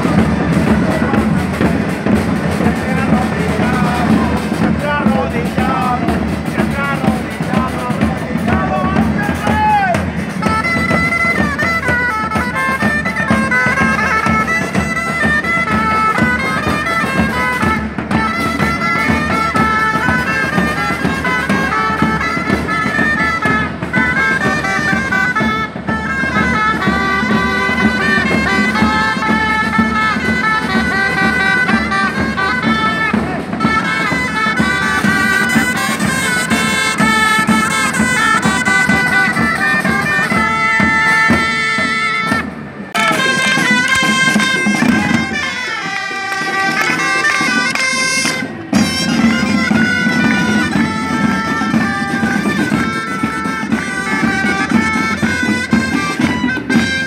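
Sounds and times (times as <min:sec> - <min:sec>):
marching drums: 0:00.0 - 0:57.0
reedy wind instruments playing: 0:00.0 - 0:57.0.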